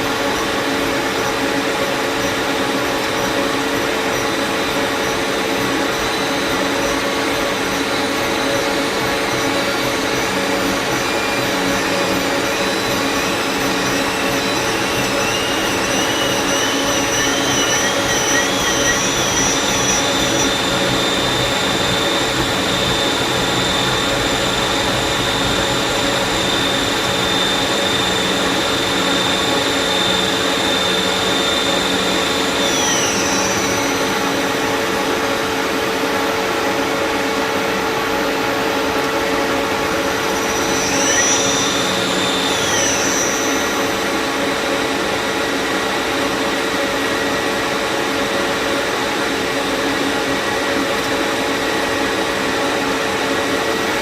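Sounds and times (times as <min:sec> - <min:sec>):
lathe humming: 0:00.0 - 0:37.2, 0:38.2 - 0:48.7
high wavering whine: 0:00.0 - 0:54.0.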